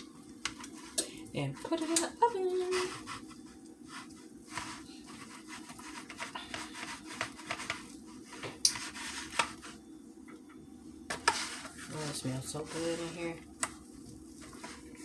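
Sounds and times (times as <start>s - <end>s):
soft scraping and rubbing: 0.5s - 9.8s, 11.1s - 15.0s.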